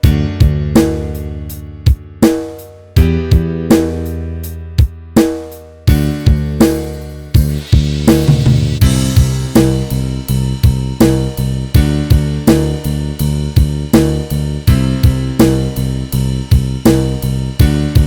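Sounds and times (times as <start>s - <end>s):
drum kit beat: 0.0s - 18.0s
low bass notes: 0.0s - 18.0s
pop-rock band music: 0.0s - 18.0s.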